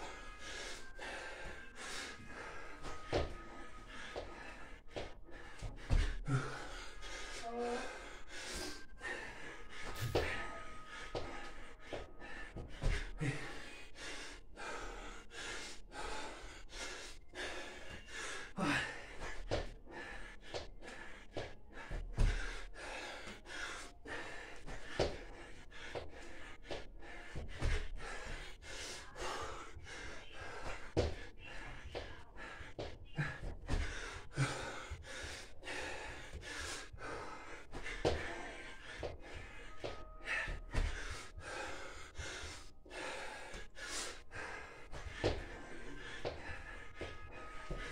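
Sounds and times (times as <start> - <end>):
man breathing hard: 0.0 - 47.9.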